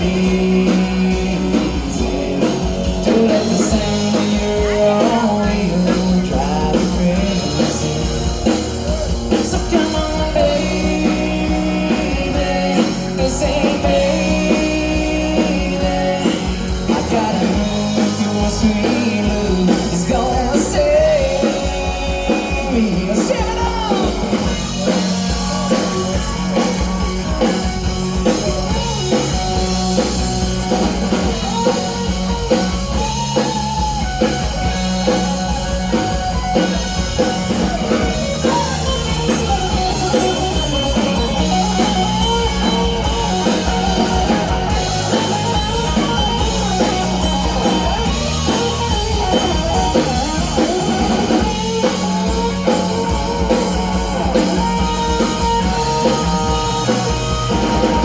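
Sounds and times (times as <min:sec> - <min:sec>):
bass guitar: 0:00.0 - 0:58.0
drum kit beat: 0:00.0 - 0:58.0
lead electric guitar: 0:00.0 - 0:58.0.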